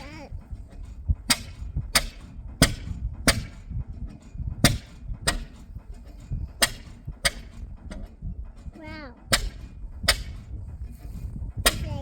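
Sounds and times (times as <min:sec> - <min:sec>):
engine exhaust pops: 0:00.0 - 0:12.0
engine low rumble: 0:00.0 - 0:12.0.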